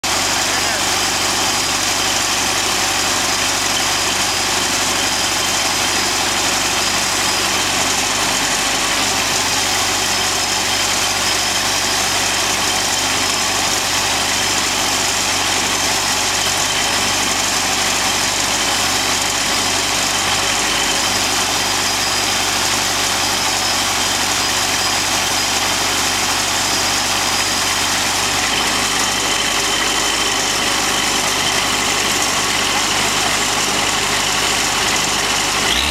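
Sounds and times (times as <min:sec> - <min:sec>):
sawmill machinery running: 0:00.0 - 0:35.9.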